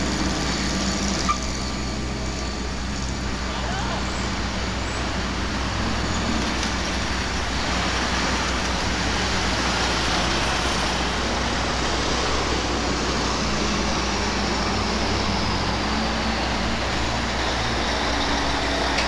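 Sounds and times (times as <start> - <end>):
diesel locomotive running: 0.0 - 19.0
road traffic: 0.0 - 19.0.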